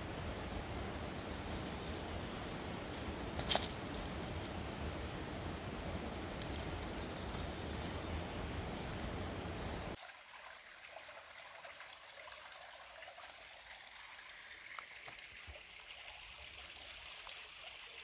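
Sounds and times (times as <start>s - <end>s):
stream trickling: 2.6s - 18.0s.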